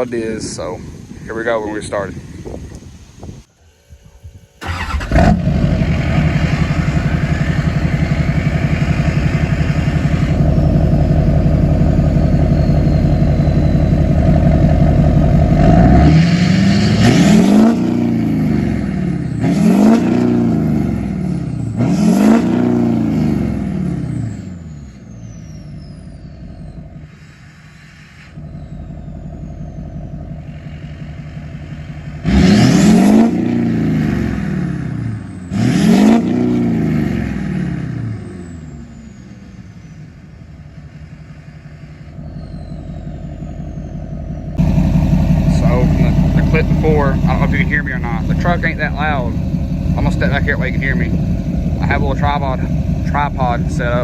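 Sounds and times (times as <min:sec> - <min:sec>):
diesel engine revving and idling: 0:00.0 - 0:03.5, 0:04.6 - 0:54.0.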